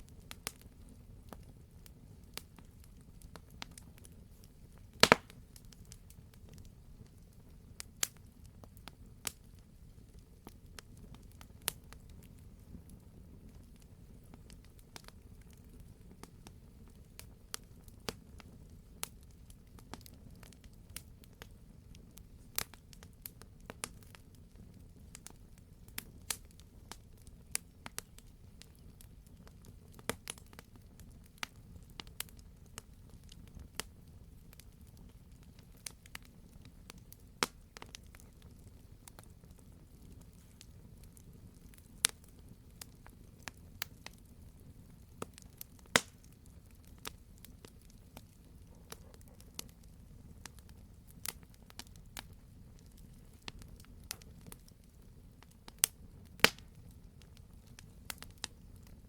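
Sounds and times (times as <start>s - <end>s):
burning logs crackling and popping: 0.0s - 59.0s
fire flames rumbling: 0.0s - 59.0s.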